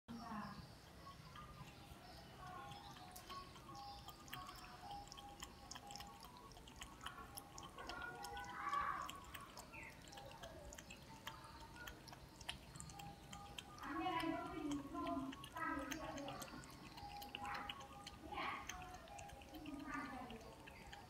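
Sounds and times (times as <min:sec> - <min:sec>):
cat lapping water: 0:00.8 - 0:21.0.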